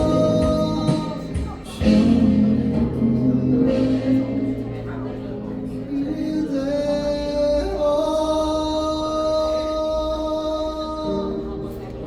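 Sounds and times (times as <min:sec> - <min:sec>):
person singing a ballad live: 0:00.0 - 0:11.8.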